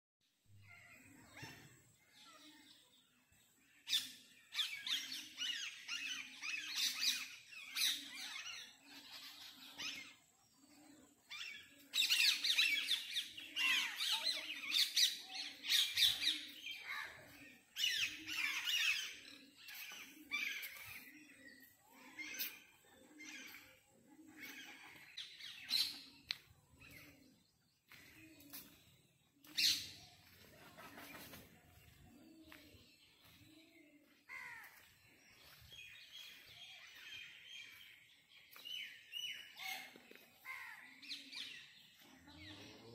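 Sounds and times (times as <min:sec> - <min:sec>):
small birds chirping: 0:00.3 - 0:42.9.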